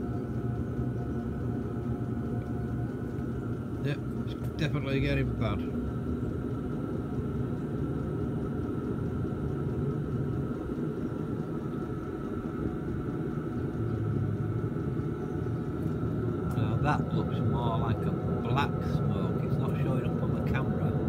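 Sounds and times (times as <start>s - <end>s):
faint high whine: 0.0s - 21.0s
heater exhaust low rumble: 0.0s - 21.0s.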